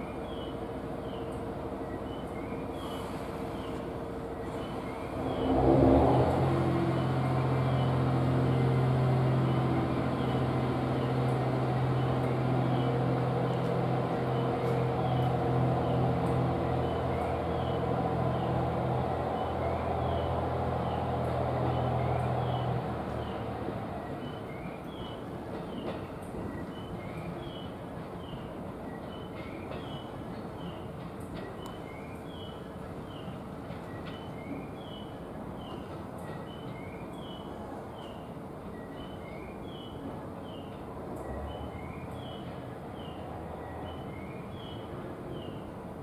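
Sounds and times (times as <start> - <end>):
diesel railcar engine droning: 0.0 - 46.0.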